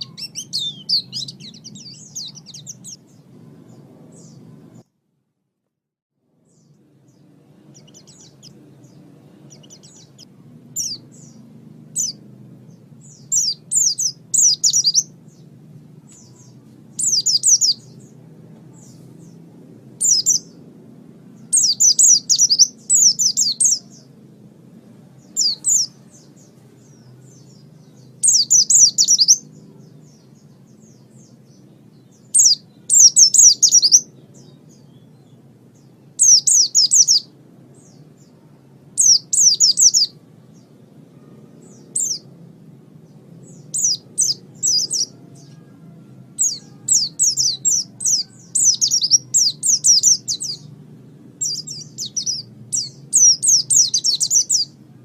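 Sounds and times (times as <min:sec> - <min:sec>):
bird chirping: 0:00.0 - 0:04.8, 0:06.4 - 0:24.2, 0:25.0 - 0:42.4, 0:43.0 - 0:55.0
faint low hum: 0:00.0 - 0:05.6, 0:06.2 - 0:55.0.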